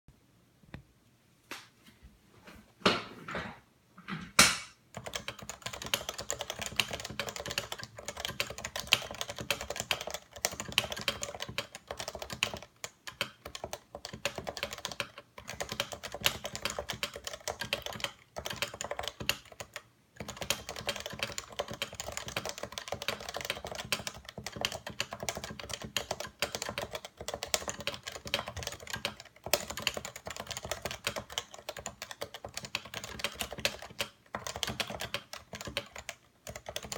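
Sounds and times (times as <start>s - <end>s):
keyboard typing: 4.9s - 36.9s.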